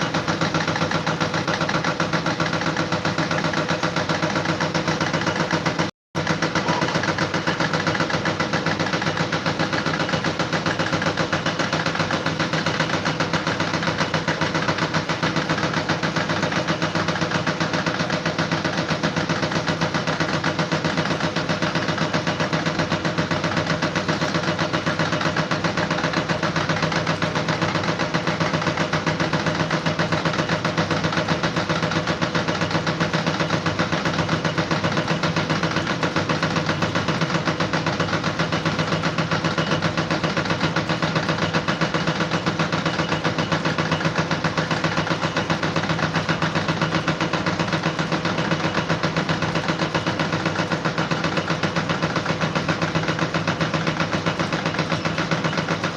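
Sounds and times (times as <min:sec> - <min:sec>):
engine running with pulsing: 0:00.0 - 0:55.9.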